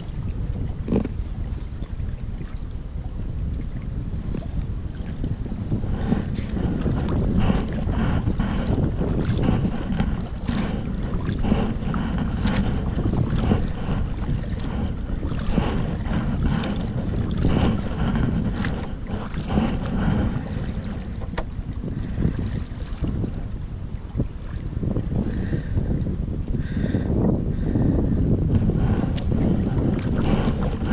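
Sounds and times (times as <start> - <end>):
water splashing at a kayak: 0.0 - 30.9
wind buffeting microphone: 0.0 - 30.9.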